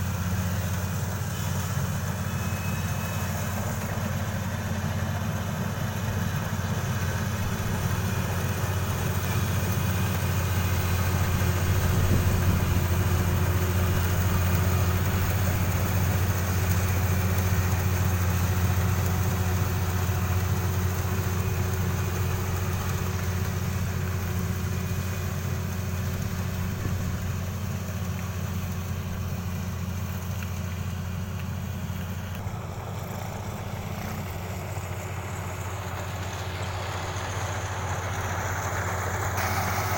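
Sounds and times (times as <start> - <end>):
diesel engine low drone: 0.0 - 39.9.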